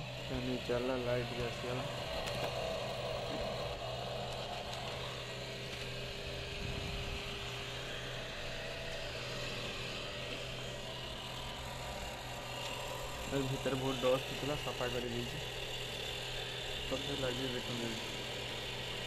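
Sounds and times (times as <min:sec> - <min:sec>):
low hum: 0:00.0 - 0:16.9
cooling fan running: 0:00.0 - 0:19.0.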